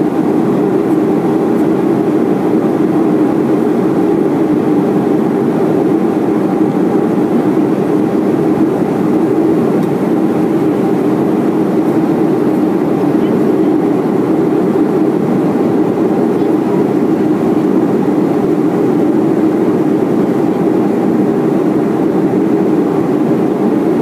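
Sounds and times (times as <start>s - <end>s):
airflow rushing in cabin: 0.0s - 24.0s
jet engines droning: 0.0s - 24.0s.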